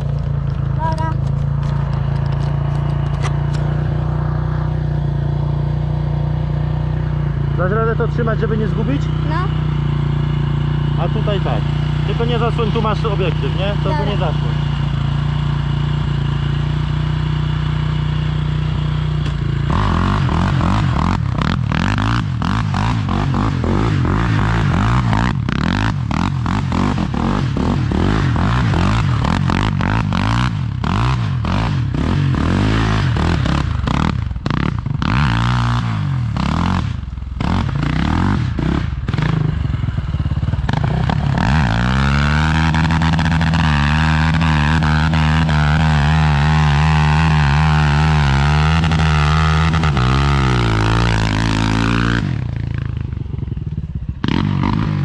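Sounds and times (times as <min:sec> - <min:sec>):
quad engine idling and revving: 0:00.0 - 0:55.0.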